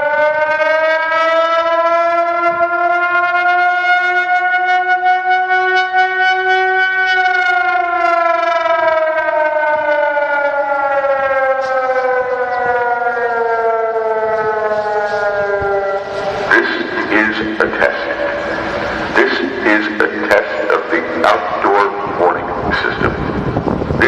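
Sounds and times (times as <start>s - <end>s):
outdoor warning siren: 0.0s - 24.0s.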